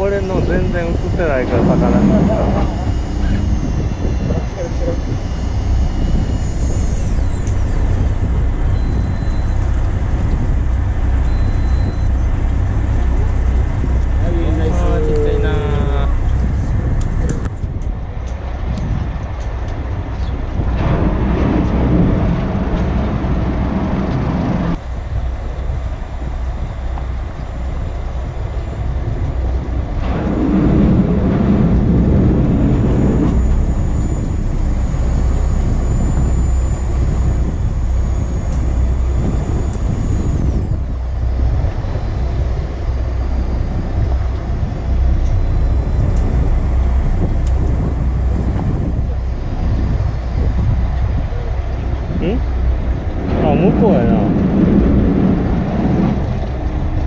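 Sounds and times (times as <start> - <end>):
faint high whine: 0.0 - 17.2, 20.1 - 57.0
boat low rumble: 0.0 - 57.0
wind noise: 0.0 - 57.0.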